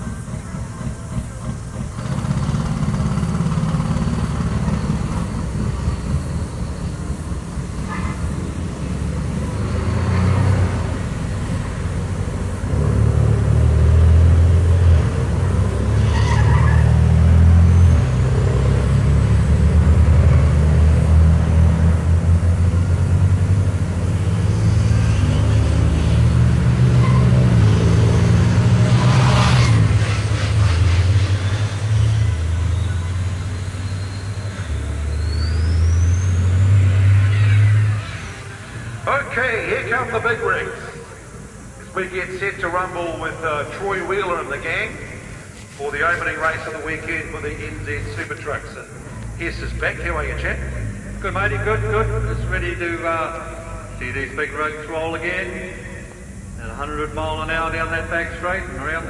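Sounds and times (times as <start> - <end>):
truck engines running loud: 0.0 - 59.0.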